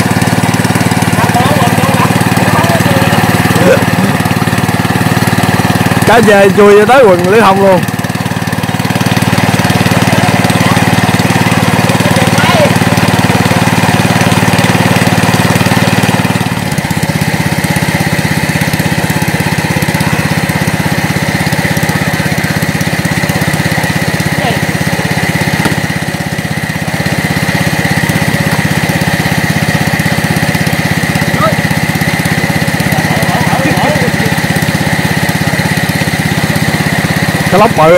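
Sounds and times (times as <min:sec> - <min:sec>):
small water pump engine running: 0:00.0 - 0:37.9.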